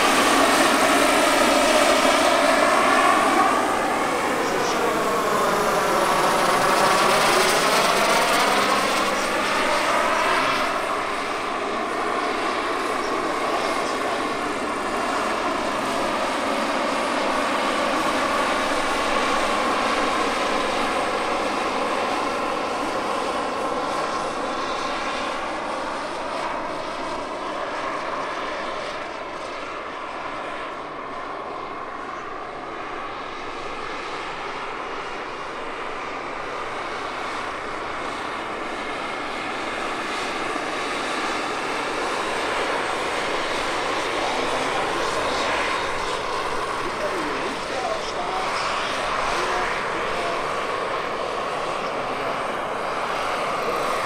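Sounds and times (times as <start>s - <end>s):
helicopter rotor: 0.0s - 54.0s
model helicopter turbine whine: 0.0s - 54.0s.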